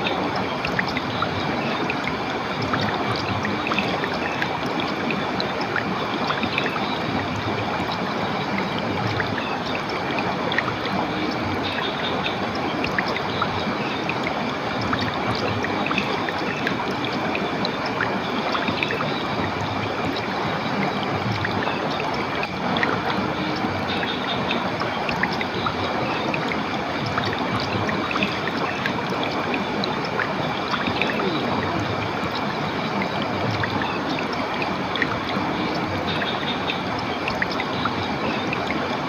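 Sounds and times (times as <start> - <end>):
stream water flowing and splashing: 0.0 - 39.0.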